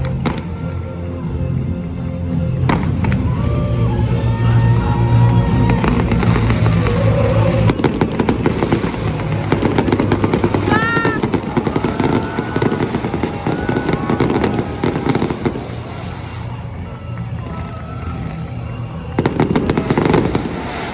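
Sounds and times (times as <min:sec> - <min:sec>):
background music: 0:00.0 - 0:20.9
fireworks crackling and banging: 0:02.4 - 0:20.9
voices: 0:03.8 - 0:20.9.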